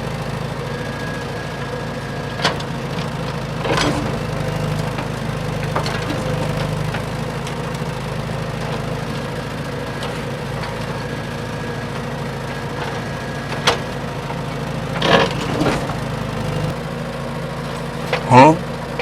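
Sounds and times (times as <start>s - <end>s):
toy truck motor humming: 0.0s - 19.0s.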